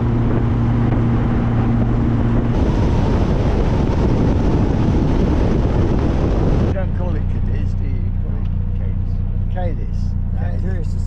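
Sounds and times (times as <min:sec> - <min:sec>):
rough rush of wind and tyres: 0:00.0 - 0:10.8
car engine hum: 0:00.0 - 0:11.0
road and wind noise: 0:00.0 - 0:11.0.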